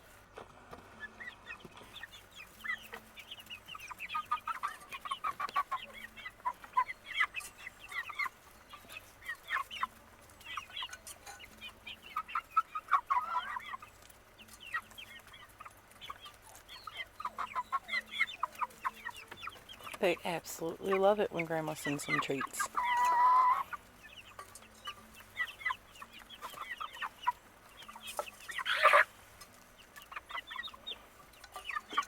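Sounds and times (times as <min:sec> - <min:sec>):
chicks cheeping and clucking: 0:00.0 - 0:32.0.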